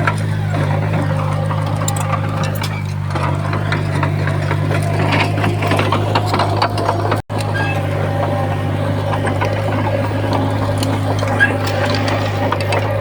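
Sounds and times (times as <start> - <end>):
bulldozer diesel engine droning: 0.0 - 13.0
clattering and rattling: 0.0 - 13.0.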